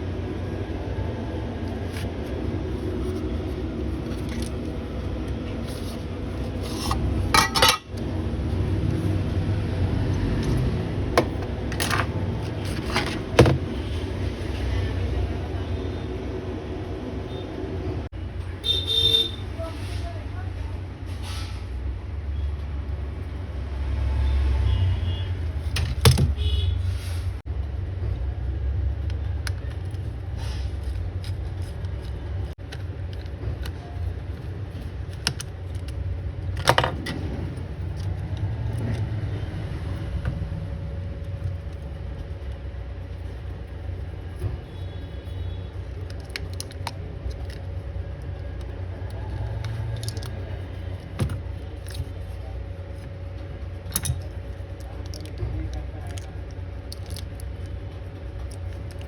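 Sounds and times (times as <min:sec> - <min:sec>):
low rumble of road traffic: 0:00.0 - 0:59.0.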